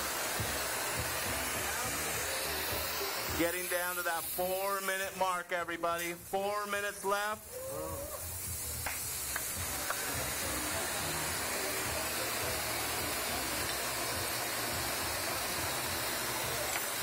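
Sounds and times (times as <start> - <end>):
torch flame hissing: 0.0 - 17.0.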